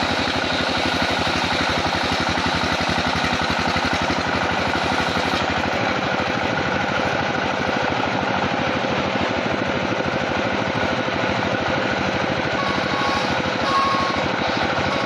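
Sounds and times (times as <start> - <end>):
engine running with rapid pulse: 0.0 - 15.0.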